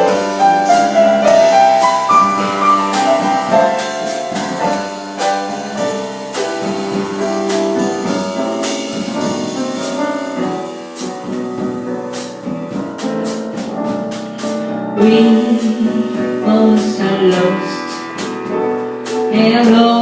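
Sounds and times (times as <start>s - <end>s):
drum kit cymbal strokes: 0.0s - 20.0s
jazz piano solo: 0.0s - 20.0s.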